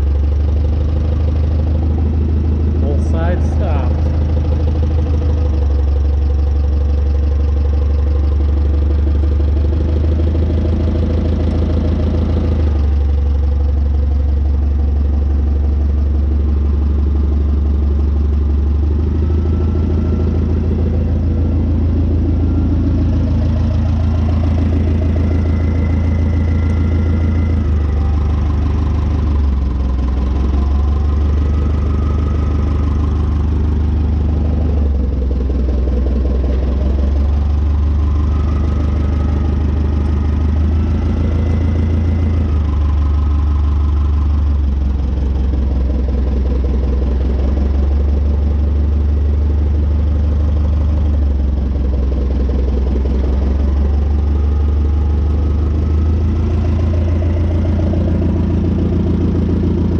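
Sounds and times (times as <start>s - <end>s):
forklift engine idling: 0.0s - 59.9s.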